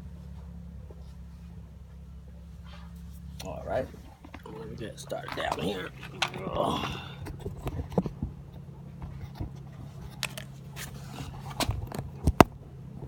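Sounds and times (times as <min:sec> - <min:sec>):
hands working on car parts: 0:00.0 - 0:12.6
steady low hum: 0:00.0 - 0:13.0.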